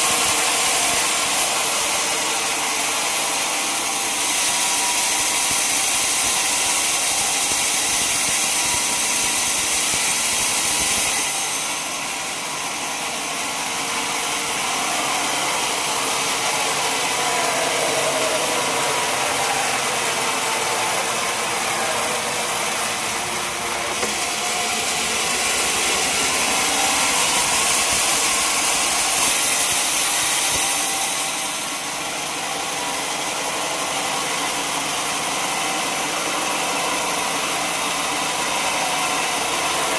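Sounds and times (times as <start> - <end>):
saw hissing: 0.0 - 34.3
sawmill engine running: 0.0 - 39.9.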